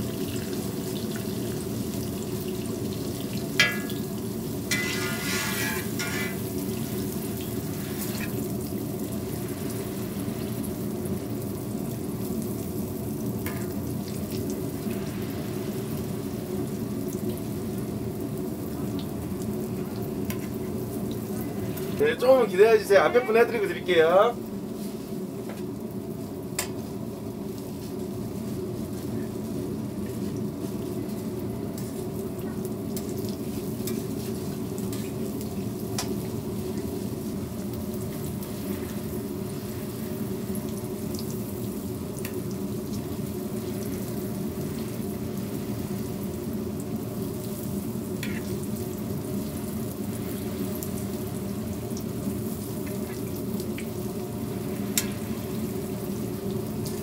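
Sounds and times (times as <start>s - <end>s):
pancakes sizzling on griddle: 0.0s - 57.0s.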